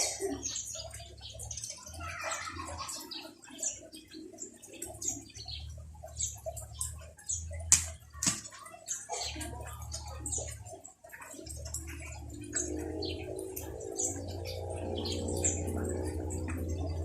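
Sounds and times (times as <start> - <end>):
rain dripping and pattering: 0.0 - 17.0.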